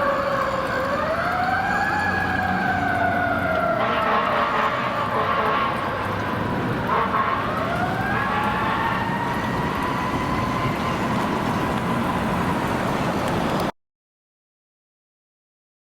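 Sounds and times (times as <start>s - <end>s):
fire engine siren wailing: 0.0s - 13.7s
road and engine noise: 0.0s - 13.8s.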